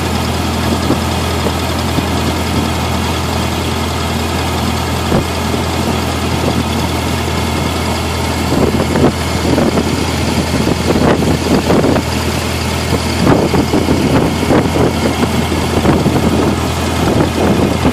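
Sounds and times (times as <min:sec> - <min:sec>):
old car engine running: 0:00.0 - 0:17.9.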